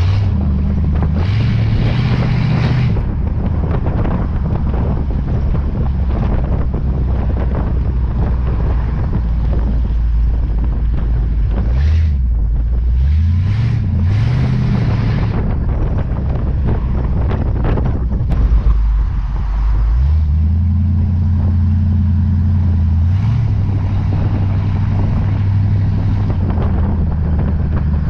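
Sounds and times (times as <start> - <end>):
car engine running: 0.0 - 28.0
wind buffeting microphone: 0.0 - 28.0.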